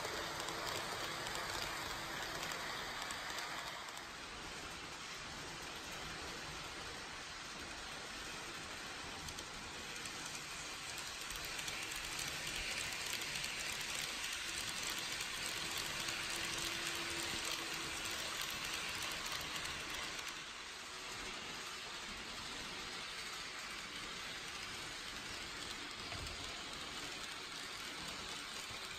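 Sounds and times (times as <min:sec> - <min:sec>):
model train wheels hissing on rails: 0:00.0 - 0:28.9.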